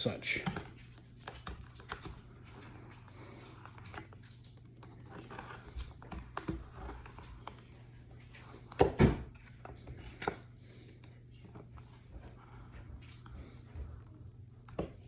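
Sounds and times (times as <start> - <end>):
knife scraping plastic: 0.3 - 15.0.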